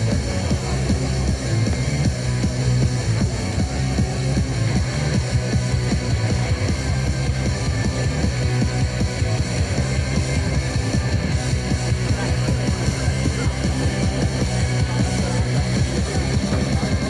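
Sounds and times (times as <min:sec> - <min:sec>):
instrumental music with strong bass: 0:00.0 - 0:17.0.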